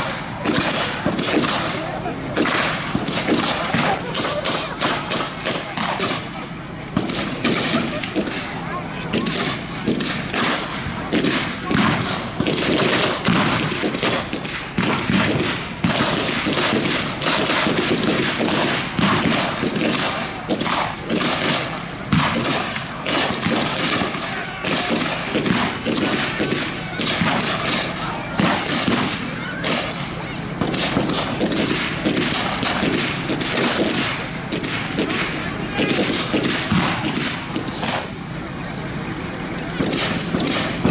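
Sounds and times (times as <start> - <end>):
rifles firing blanks: 0.0 - 40.9.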